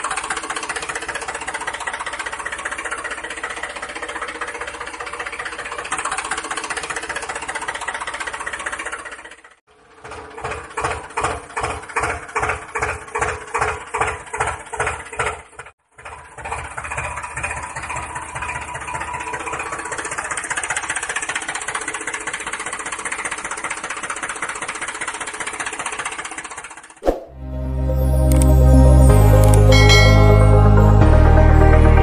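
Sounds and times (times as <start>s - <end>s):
tractor engine chugging: 0.0s - 27.0s, 29.1s - 32.0s.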